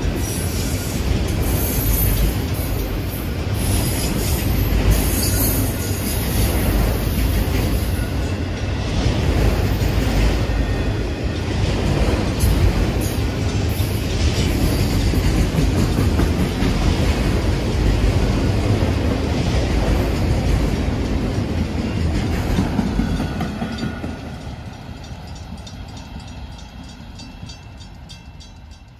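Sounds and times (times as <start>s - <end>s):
freight train rumbling on rails: 0.0s - 28.9s.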